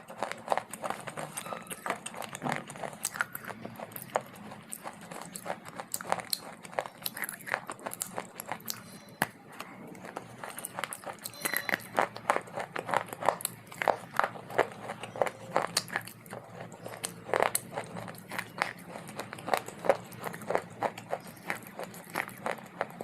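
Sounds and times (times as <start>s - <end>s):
person chewing dry clay: 0.0s - 23.0s.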